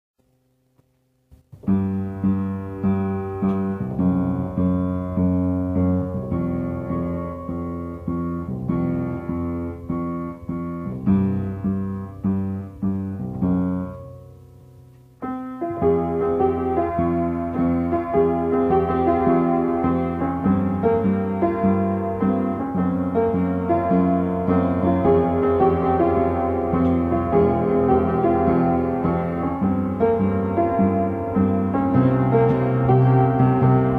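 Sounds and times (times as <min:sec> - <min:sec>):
solo piano chords: 0:01.4 - 0:33.9.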